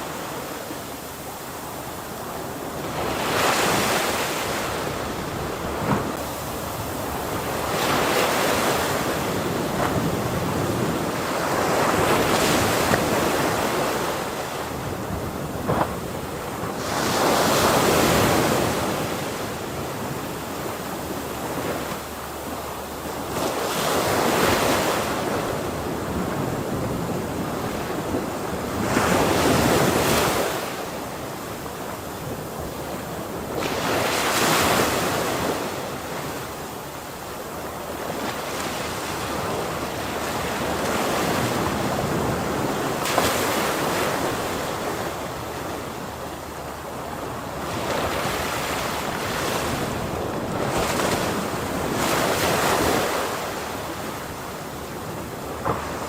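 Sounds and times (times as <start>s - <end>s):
ocean waves breaking: 0.0s - 56.0s
wind noise on microphone: 0.0s - 56.0s.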